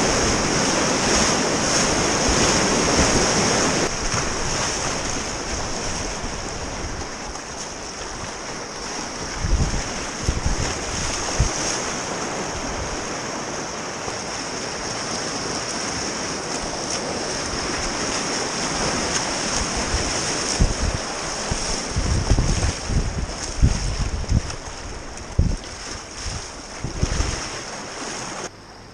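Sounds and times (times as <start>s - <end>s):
wind buffeting microphone: 0.0s - 13.1s, 16.3s - 28.5s
whitewater rushing: 0.0s - 28.5s.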